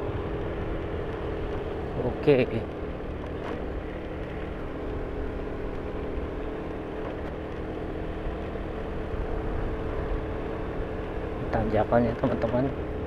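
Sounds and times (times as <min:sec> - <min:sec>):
vehicle engine under load: 0:00.0 - 0:13.0.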